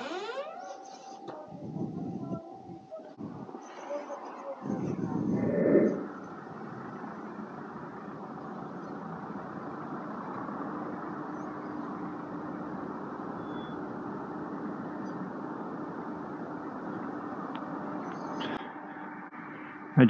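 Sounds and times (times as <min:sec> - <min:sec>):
wind and road noise: 0:01.4 - 0:19.9.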